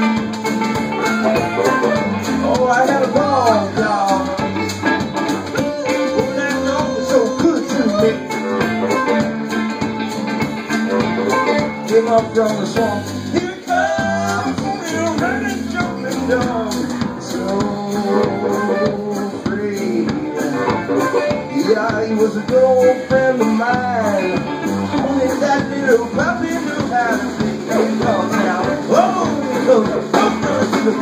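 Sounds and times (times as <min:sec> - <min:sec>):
banjo: 0:00.0 - 0:31.0
drums: 0:00.0 - 0:31.0
electric guitar: 0:00.0 - 0:31.0
harmonica: 0:00.0 - 0:31.0.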